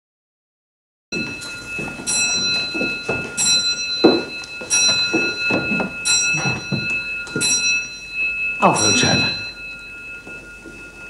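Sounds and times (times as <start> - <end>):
bell-like ringing notes: 1.2 - 11.0
steady high whine: 1.2 - 11.0.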